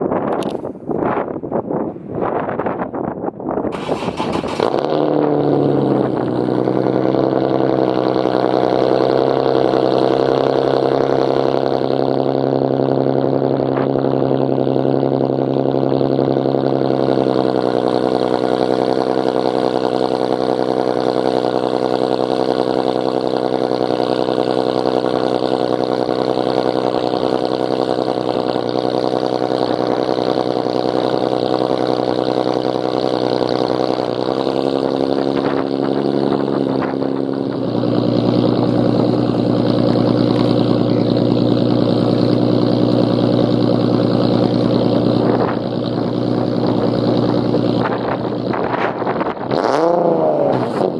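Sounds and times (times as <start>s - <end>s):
car engine cold idle: 3.5s - 50.9s.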